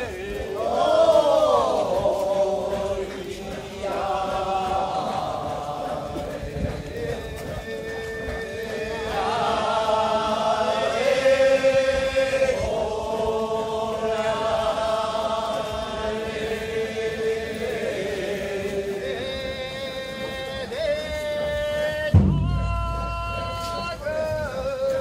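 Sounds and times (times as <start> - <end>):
work chant in long sliding notes: 0.0 - 25.0.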